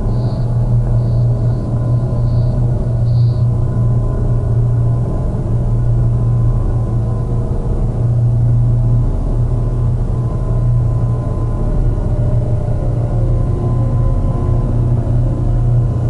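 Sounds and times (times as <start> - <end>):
low ambient drone hum: 0.0 - 16.0.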